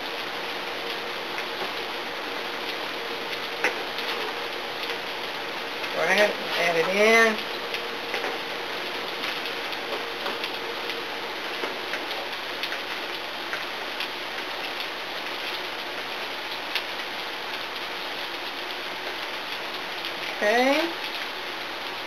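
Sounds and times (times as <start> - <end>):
vegetables sizzling in a frying pan: 0.0 - 22.0.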